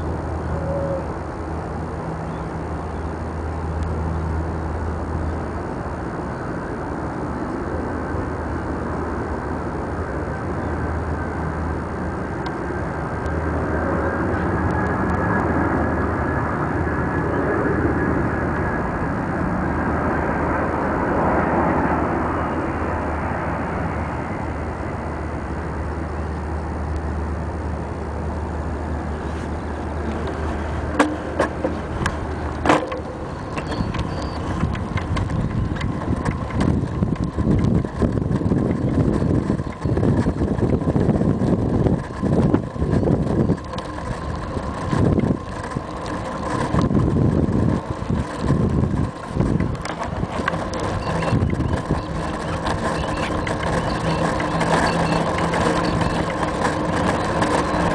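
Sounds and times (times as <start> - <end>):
road rumble: 0.0 - 57.9
wind buffeting: 0.0 - 57.9.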